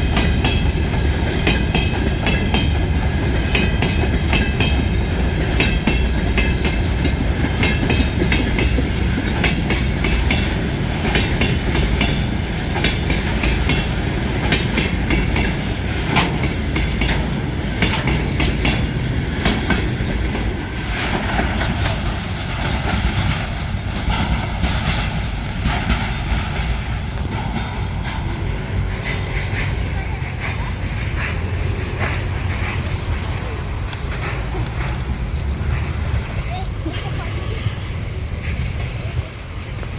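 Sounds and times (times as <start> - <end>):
freight train rumbling: 0.0 - 39.9
wheels clacking over rail joints: 0.0 - 39.9.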